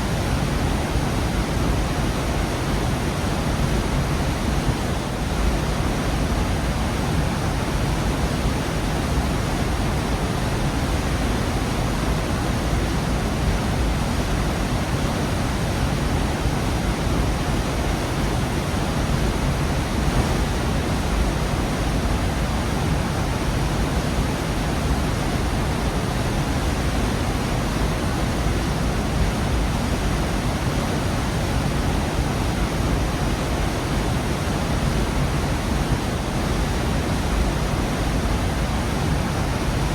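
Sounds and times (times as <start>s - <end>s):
waterfall rushing: 0.2s - 39.9s.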